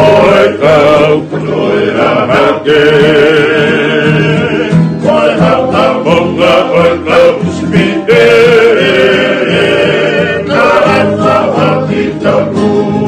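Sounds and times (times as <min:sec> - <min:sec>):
acoustic guitar: 0:00.0 - 0:13.0
men singing in harmony: 0:00.0 - 0:13.0
strummed ukuleles: 0:00.0 - 0:13.0.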